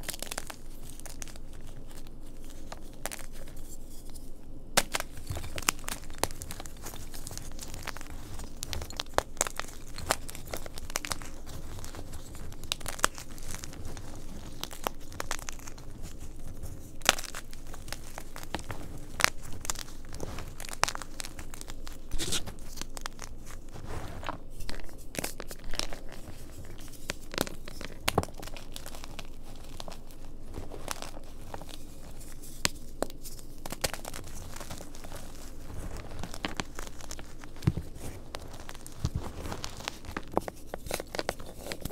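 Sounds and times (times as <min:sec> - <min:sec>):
chalk snapping and crunching: 0:00.0 - 0:41.9.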